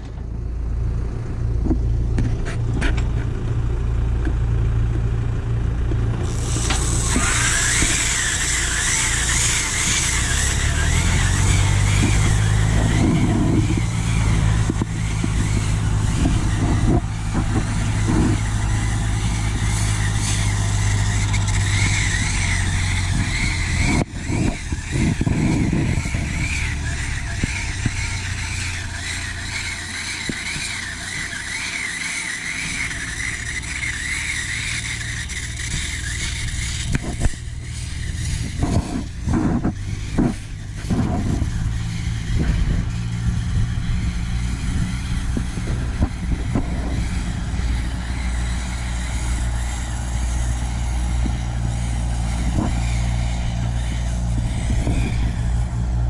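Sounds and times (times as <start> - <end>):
tractor engine running: 0.0 - 56.0
wavering high-pitched squeal: 6.2 - 56.0.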